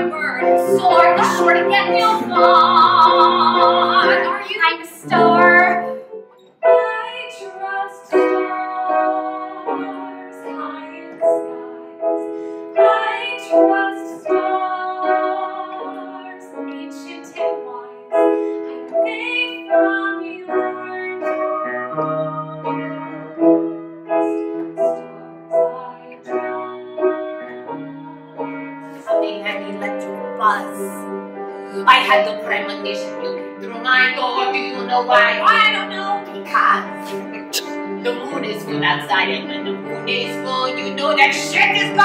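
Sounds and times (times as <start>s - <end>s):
woman singing with vibrato: 0.0s - 6.0s, 6.8s - 11.9s, 12.8s - 18.1s, 18.7s - 23.4s, 25.5s - 31.0s, 31.7s - 37.3s, 38.0s - 42.0s
slow piano chords: 0.0s - 42.0s.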